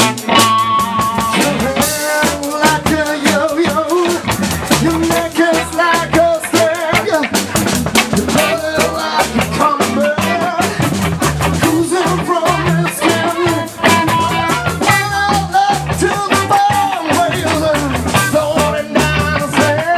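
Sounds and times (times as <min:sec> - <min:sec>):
live ska band playing: 0:00.0 - 0:19.9.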